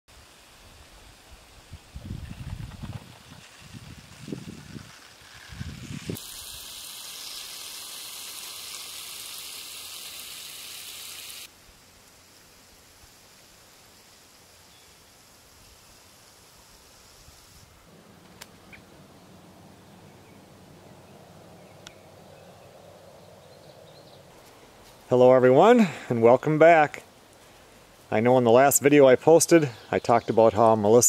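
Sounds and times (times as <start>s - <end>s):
steady outdoor hiss: 0.1s - 31.0s.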